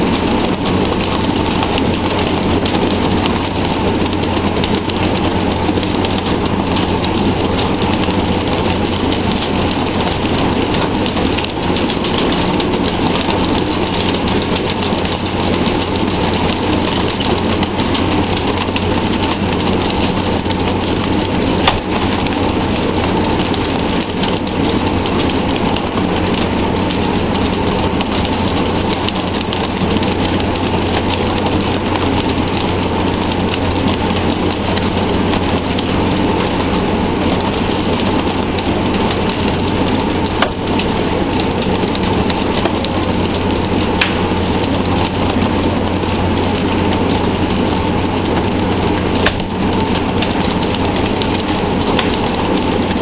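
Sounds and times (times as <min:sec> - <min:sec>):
boat engine humming: 0:00.0 - 0:53.0
water rushing along boat hull: 0:00.0 - 0:53.0.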